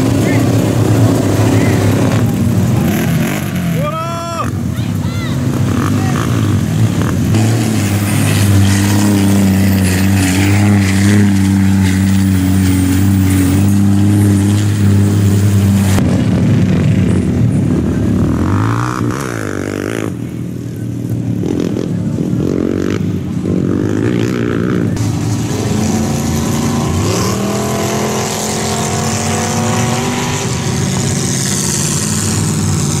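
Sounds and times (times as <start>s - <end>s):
engine revving: 0.0s - 4.7s, 5.3s - 33.0s
truck engine running hard: 0.0s - 33.0s.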